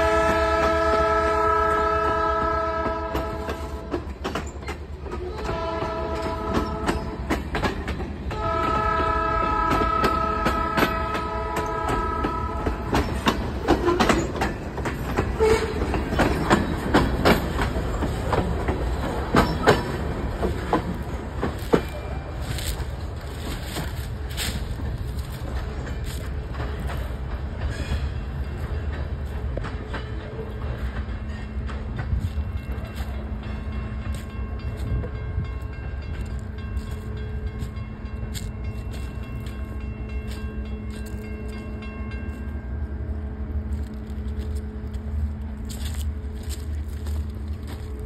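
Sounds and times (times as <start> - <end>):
freight train rumbling: 0.0 - 48.0
train wheels clicking: 0.0 - 48.0.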